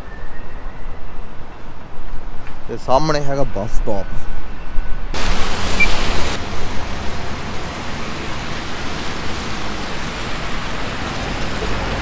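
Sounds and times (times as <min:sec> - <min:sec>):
road traffic noise: 0:01.2 - 0:12.0.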